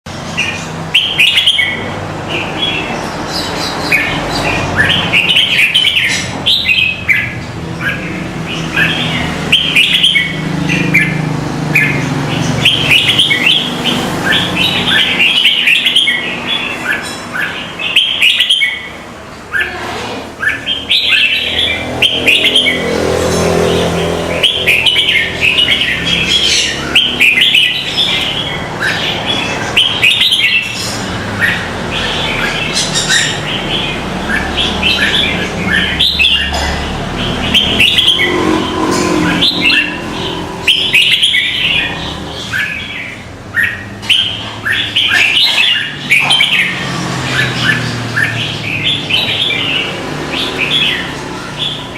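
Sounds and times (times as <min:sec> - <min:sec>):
small birds chirping and squawking: 0:00.1 - 0:51.9.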